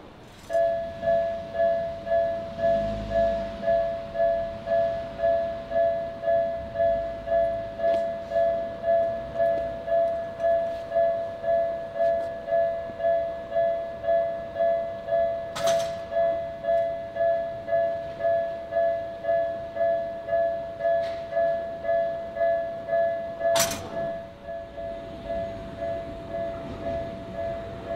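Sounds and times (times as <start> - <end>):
level crossing alarm dinging: 0.5 - 27.9.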